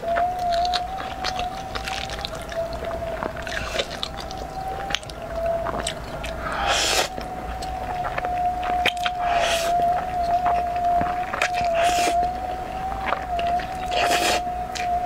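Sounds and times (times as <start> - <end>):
steady wavering whine: 0.0 - 15.0
wet chewing clicks: 0.0 - 15.0.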